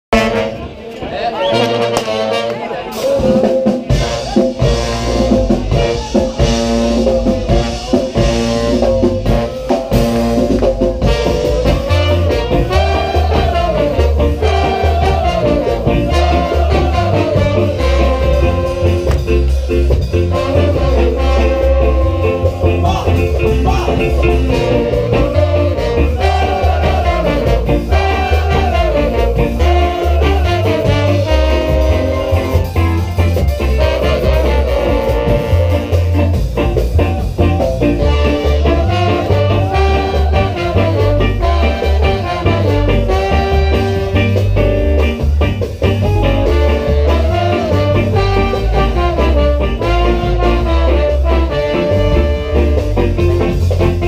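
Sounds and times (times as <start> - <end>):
live ska band playing: 0.1 - 54.0
trombone and trumpet melody: 0.1 - 54.0
heavy pulsing bass line: 3.8 - 54.0.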